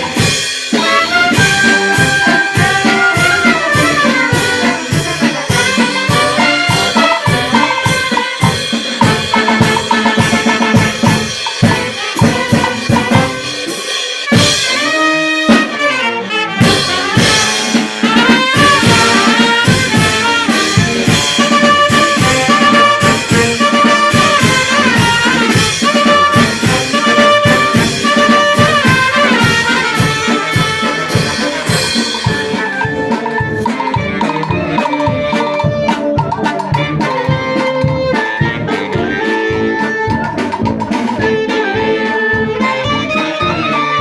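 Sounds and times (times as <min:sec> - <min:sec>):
brass band playing: 0:00.0 - 0:44.0.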